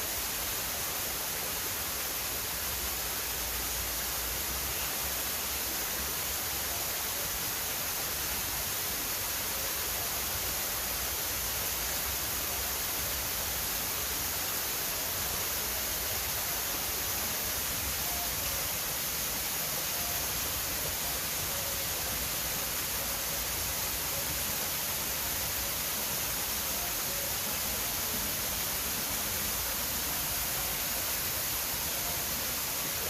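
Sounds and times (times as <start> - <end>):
steady bright hiss: 0.0 - 33.0.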